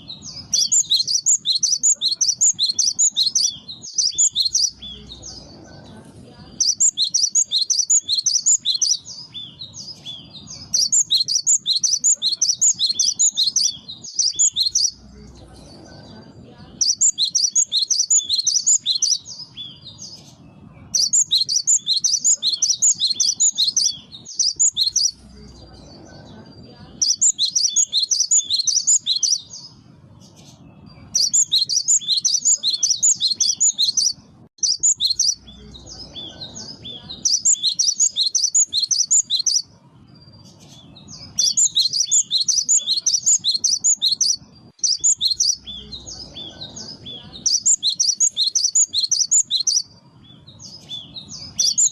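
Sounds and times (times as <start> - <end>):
bird singing high chirps: 0.0 - 51.9.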